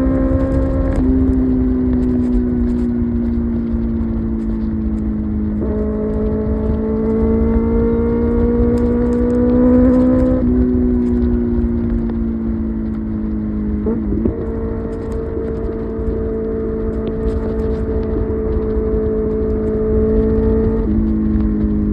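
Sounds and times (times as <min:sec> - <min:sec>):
motorcycle engine running: 0:00.0 - 0:21.9
wind rush: 0:00.0 - 0:21.9.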